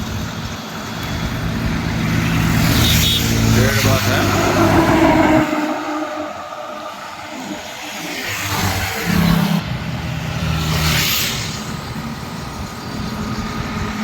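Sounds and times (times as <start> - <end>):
highway traffic passing: 0.0 - 14.0.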